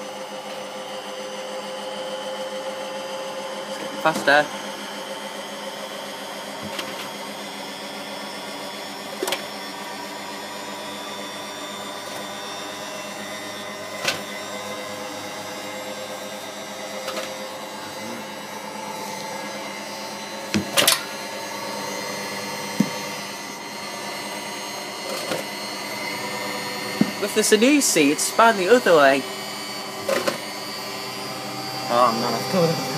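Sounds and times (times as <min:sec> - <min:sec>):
washing machine spinning: 0:00.0 - 0:32.9.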